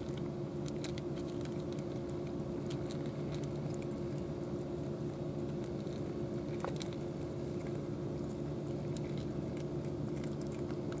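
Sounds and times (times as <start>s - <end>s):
cats crunching dry kibble: 0.0s - 11.0s
steady low hum: 0.0s - 11.0s.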